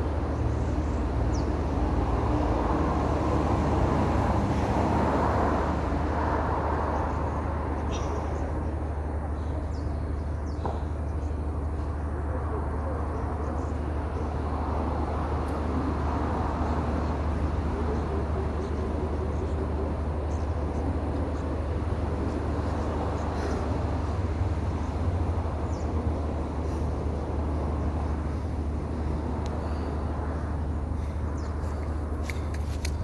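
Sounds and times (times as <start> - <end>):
constant low hum: 5.6 - 33.0.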